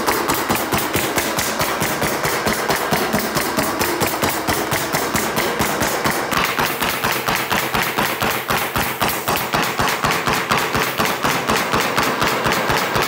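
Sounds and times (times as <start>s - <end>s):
pneumatic stapler firing: 0.0s - 13.0s.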